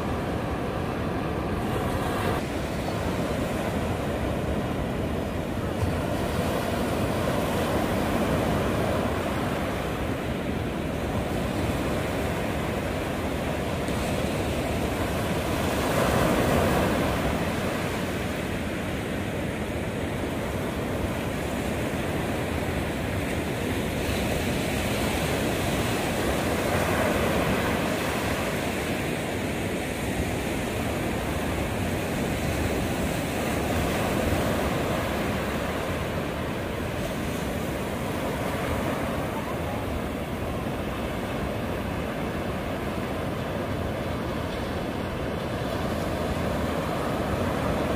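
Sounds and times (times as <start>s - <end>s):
surf breaking on beach: 0.0s - 47.9s.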